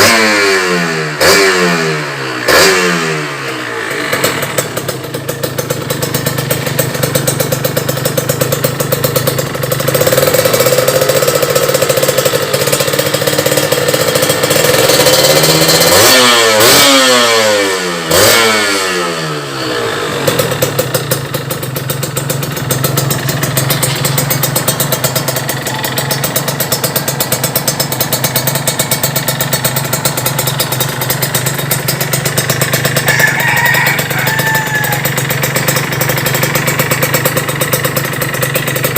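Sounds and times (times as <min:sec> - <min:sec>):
two-stroke engine idling and revving: 0:00.0 - 0:38.9.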